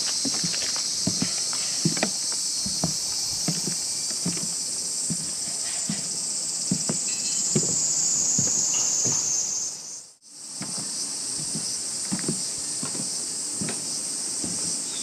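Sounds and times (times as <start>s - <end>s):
footsteps on wooden boardwalk: 0.0s - 9.3s, 10.4s - 15.0s
high-pitched insect chorus: 0.0s - 15.0s.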